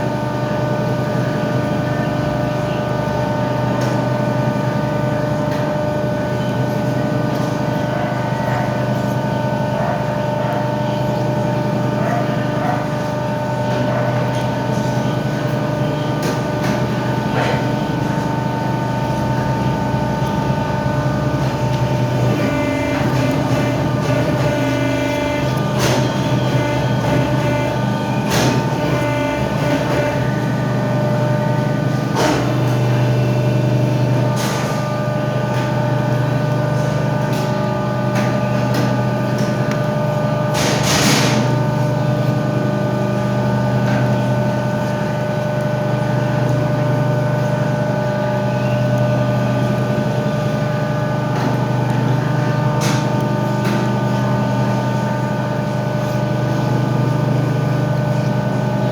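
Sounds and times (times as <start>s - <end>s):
machine running steadily: 0.0s - 58.9s.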